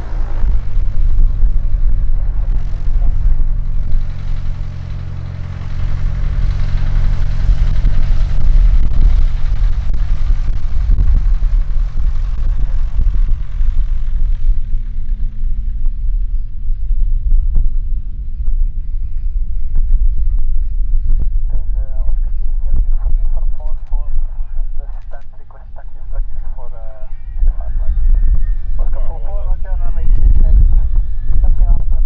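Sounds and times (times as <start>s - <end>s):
propeller aircraft engine drone: 0.0s - 32.0s.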